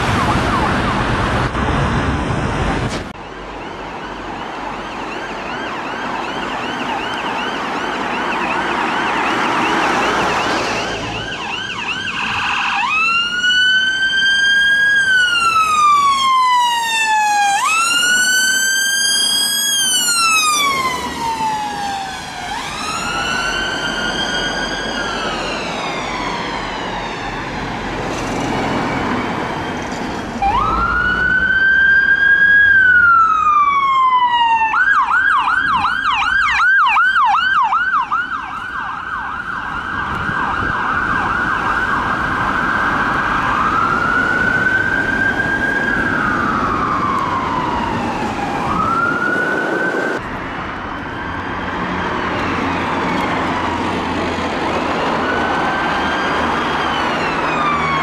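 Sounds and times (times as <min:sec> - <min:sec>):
ambulance siren wailing and yelping: 0:00.0 - 0:01.2, 0:03.2 - 0:58.0
road traffic noise: 0:00.0 - 0:58.0.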